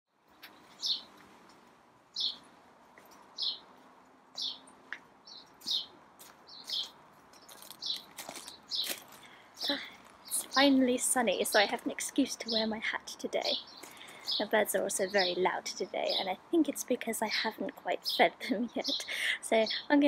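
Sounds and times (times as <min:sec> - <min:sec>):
bird chirping: 0:00.3 - 0:20.0
other birds calling: 0:00.4 - 0:02.5, 0:03.1 - 0:03.7, 0:04.4 - 0:16.4, 0:17.1 - 0:20.0.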